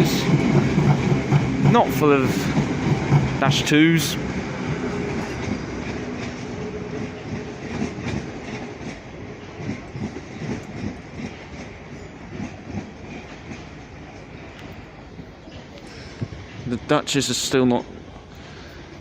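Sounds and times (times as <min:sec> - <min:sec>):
electric train hum: 0:00.0 - 0:19.0
train wheels clacking over rails: 0:00.0 - 0:19.0.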